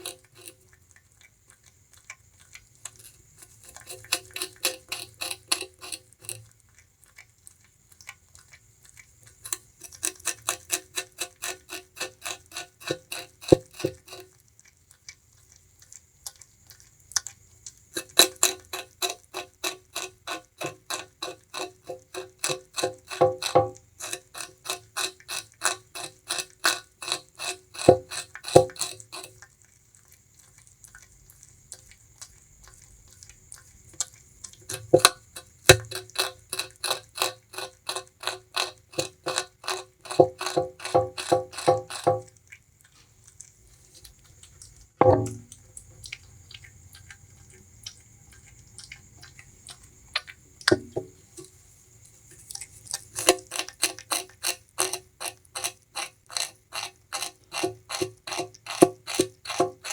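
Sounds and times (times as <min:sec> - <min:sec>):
rodent gnawing and crunching: 0:00.0 - 0:59.9.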